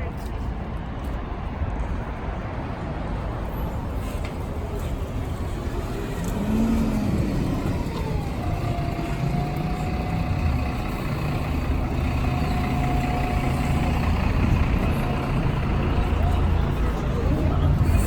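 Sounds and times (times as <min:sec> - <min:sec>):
rumble of cars: 0:00.0 - 0:18.0
heavy vehicle engine running: 0:03.3 - 0:18.0.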